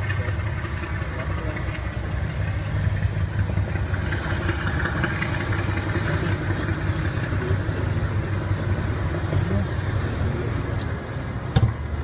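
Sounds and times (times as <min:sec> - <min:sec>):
diesel locomotive engine rumbling: 0:00.0 - 0:12.0.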